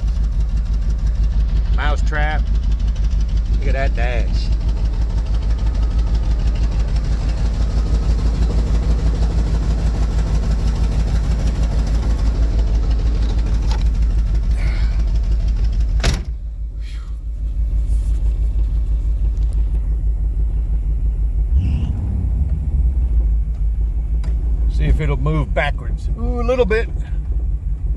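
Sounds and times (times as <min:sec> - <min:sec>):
car engine idling: 0:00.0 - 0:27.9.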